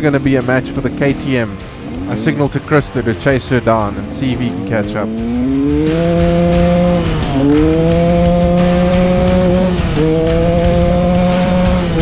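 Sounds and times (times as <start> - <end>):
vehicle engine revving high: 0.0 - 12.0.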